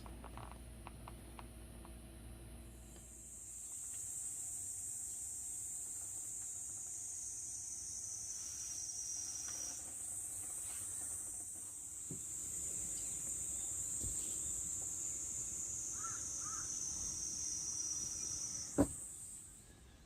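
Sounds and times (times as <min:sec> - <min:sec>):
night insects chirring: 0:02.7 - 0:20.0.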